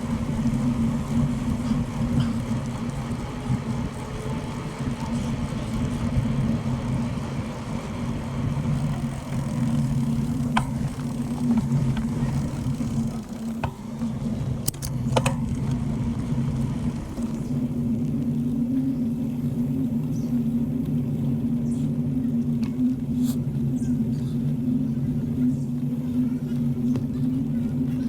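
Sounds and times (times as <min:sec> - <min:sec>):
bicycle riding rumble: 0:00.0 - 0:28.0.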